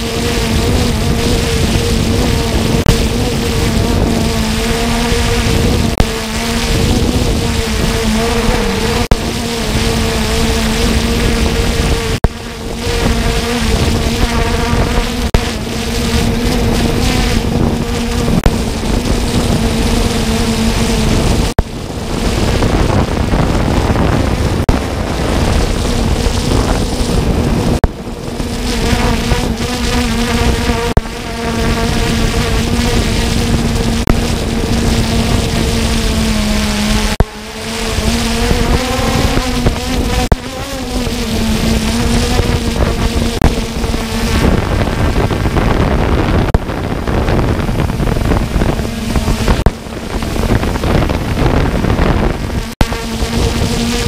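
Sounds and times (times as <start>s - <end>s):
drone propellers buzzing: 0.0s - 54.0s.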